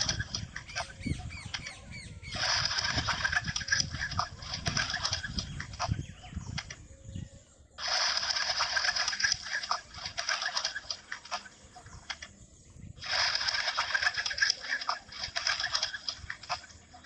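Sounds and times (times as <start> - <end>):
birds chattering and chirping: 0.0 - 17.0.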